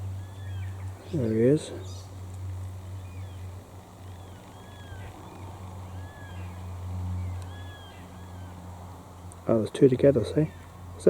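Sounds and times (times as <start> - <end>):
faint bird calls: 0.0 - 11.0
steady low hum: 0.0 - 11.0.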